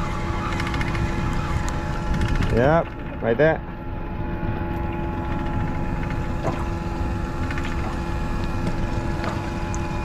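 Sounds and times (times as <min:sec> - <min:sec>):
outboard motor idling: 0:00.0 - 0:10.0
water noise: 0:00.0 - 0:10.0
wind: 0:00.0 - 0:10.0.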